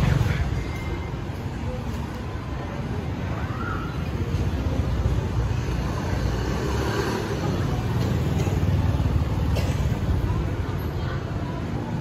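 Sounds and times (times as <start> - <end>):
faint chatter of people: 0.0 - 12.0
passing traffic rumble: 0.0 - 12.0.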